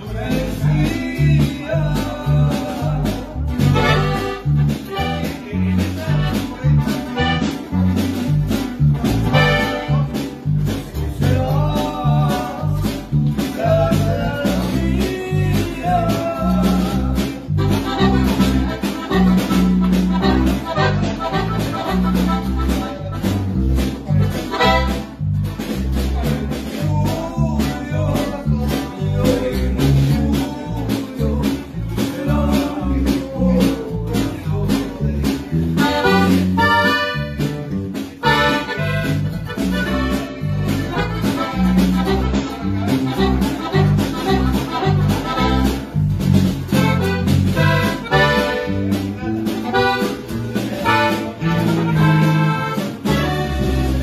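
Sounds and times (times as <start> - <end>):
button accordion melody: 0.0 - 26.5, 34.2 - 54.0
electric bass: 0.0 - 54.0
snare drum beat: 0.0 - 54.0
strummed guitar: 0.0 - 54.0.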